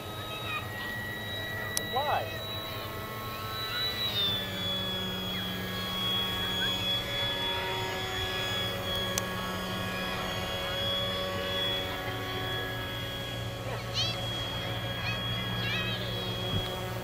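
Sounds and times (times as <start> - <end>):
electric model jet whining: 0.0 - 17.0.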